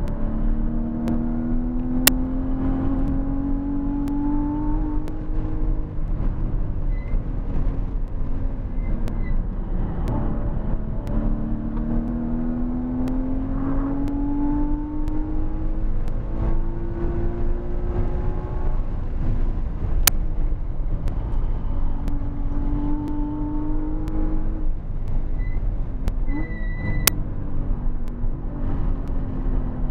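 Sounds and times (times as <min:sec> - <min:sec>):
car engine accelerating hard: 0:00.0 - 0:29.9
wind and road rumble: 0:00.0 - 0:29.9.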